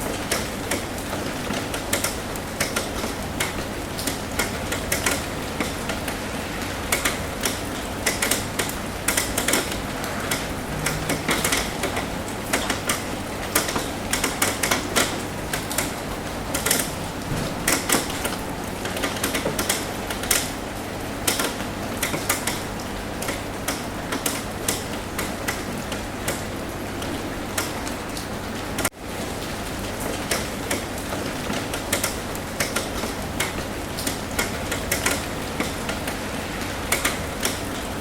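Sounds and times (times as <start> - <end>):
rain on a roof: 0.0 - 38.0.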